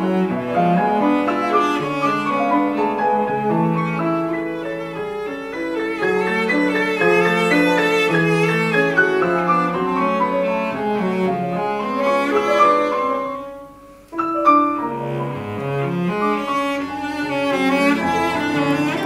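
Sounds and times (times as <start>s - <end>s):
cello played with bow: 0.0s - 19.0s.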